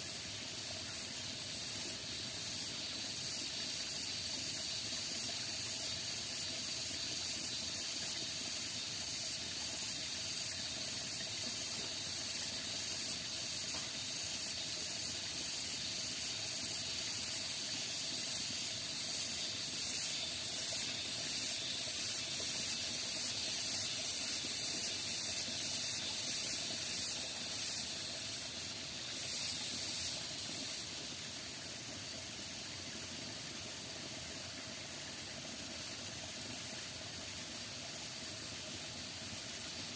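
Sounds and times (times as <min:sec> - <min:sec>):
insects chirring: 0:00.0 - 0:39.9
steady insect drone: 0:00.0 - 0:39.9.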